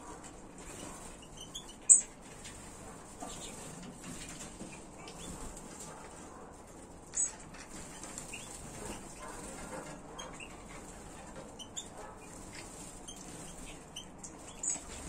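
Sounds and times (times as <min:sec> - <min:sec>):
wings fluttering: 0:00.0 - 0:15.0
finches chirping: 0:00.7 - 0:05.6, 0:07.2 - 0:15.0.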